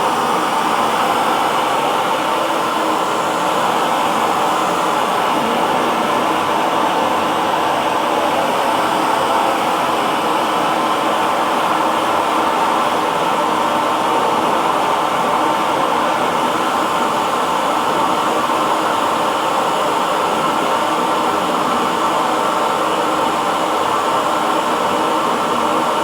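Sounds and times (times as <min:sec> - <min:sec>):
hair dryer running: 0:00.0 - 0:26.0.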